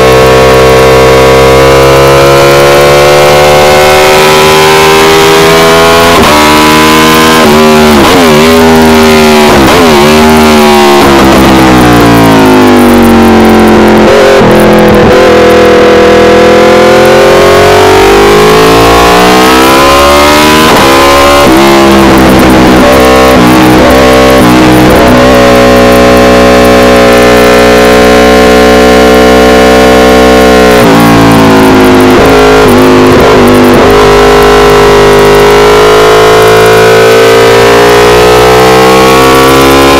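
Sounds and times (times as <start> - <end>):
motorcycle engine at race pace: 0.0 - 39.9.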